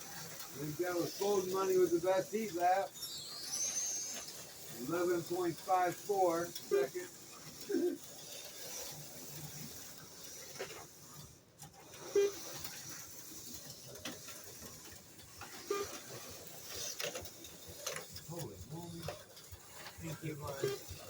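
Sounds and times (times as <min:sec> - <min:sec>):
slot car motors whirring: 0:00.0 - 0:21.0.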